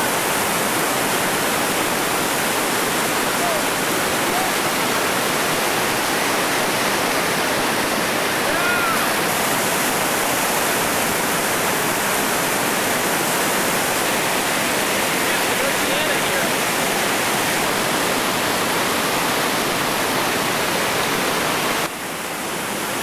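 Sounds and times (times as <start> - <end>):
whitewater river rushing: 0.0 - 23.0.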